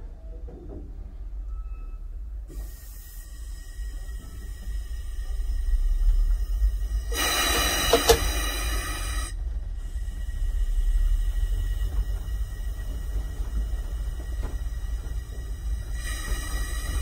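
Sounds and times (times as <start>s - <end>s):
train low rumble: 0.0s - 17.0s
hiss burst: 2.5s - 17.0s.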